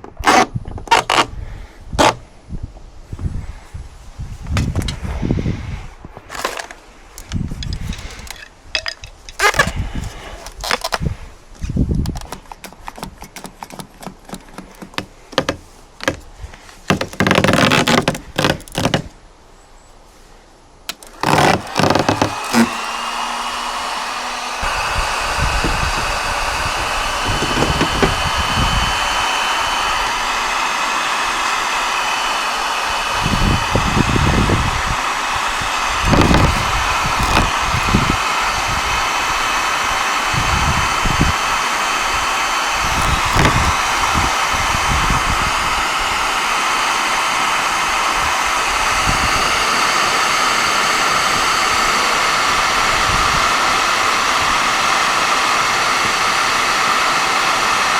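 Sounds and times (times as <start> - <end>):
hot-air gun blowing: 0.0 - 2.4, 4.4 - 19.1, 20.9 - 57.9.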